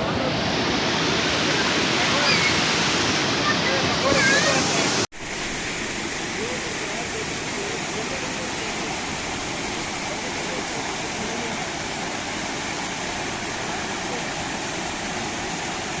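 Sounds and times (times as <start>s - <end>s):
waterfall and stream rushing: 0.0s - 16.0s.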